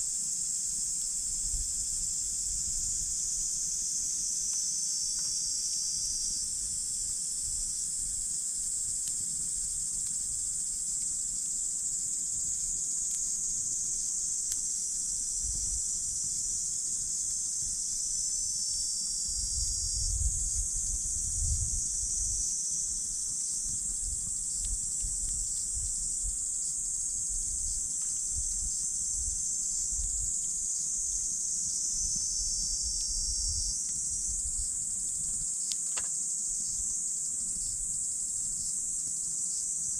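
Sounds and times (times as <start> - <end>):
crickets trilling chorus: 0.0 - 39.9
campfire crackles: 0.1 - 19.6, 20.5 - 39.9.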